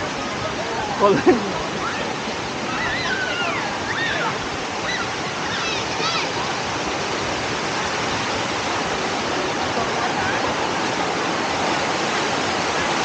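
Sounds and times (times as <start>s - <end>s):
faint voices: 0.0s - 7.0s, 9.0s - 13.0s
waterfall rushing: 0.0s - 13.0s.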